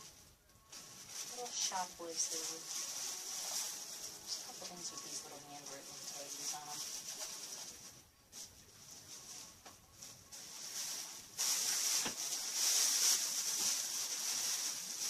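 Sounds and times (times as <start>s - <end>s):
wrapping crinkling: 0.0s - 15.0s.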